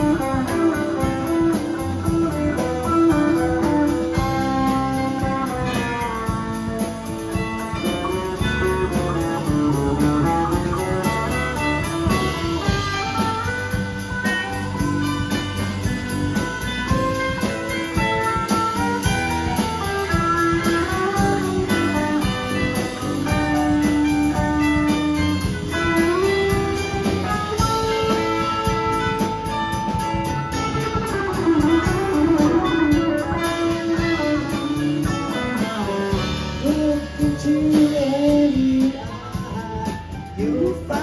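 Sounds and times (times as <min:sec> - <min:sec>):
electric guitar lead: 0:00.0 - 0:41.0
rock band playing: 0:00.0 - 0:41.0.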